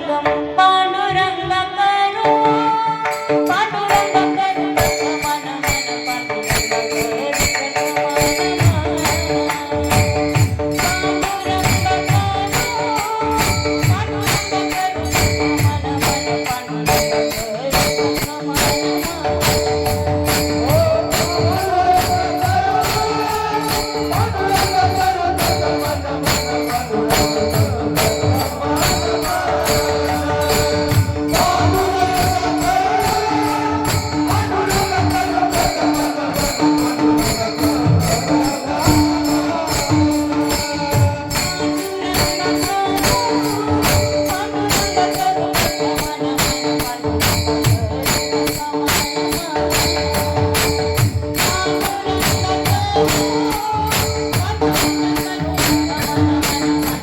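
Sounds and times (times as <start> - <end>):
harmonium melody: 0.0 - 57.0
hand cymbals jingling: 3.0 - 57.0
drum: 6.5 - 57.0.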